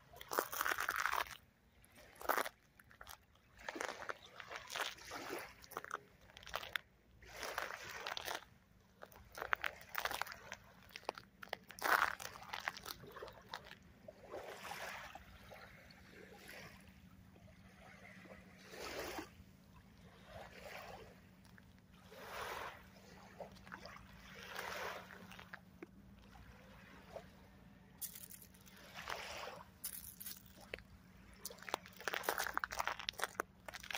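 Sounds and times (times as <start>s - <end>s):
small waves lapping on sand: 0.0s - 33.9s.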